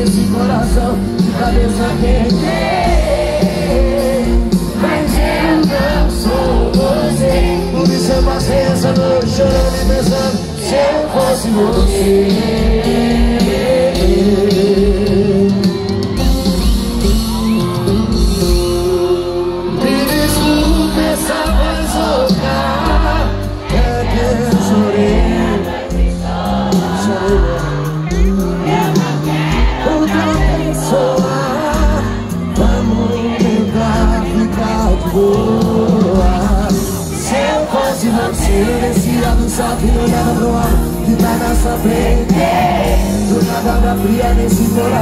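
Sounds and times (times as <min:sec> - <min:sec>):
person singing: 0:00.0 - 0:16.6, 0:17.6 - 0:45.0
live band music: 0:00.0 - 0:45.0.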